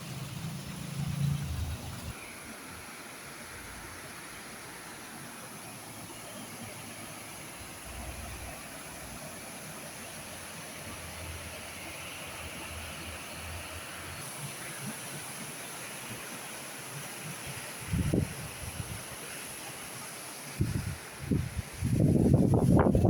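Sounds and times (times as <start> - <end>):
water rushing over cascades: 0.0 - 23.0.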